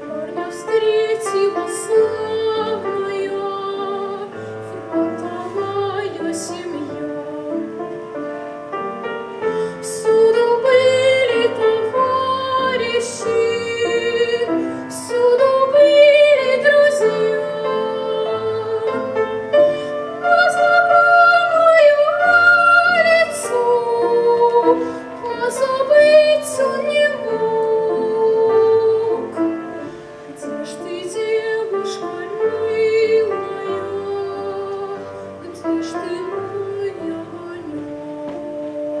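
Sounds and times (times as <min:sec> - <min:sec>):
woman singing operatically: 0:00.0 - 0:07.8, 0:09.8 - 0:29.4, 0:30.4 - 0:39.0
grand piano: 0:00.0 - 0:39.0.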